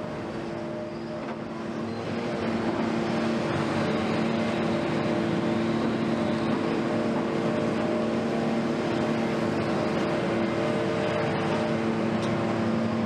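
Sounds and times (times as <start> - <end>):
engine droning steadily: 0.0 - 13.0
traffic noise: 0.0 - 13.0.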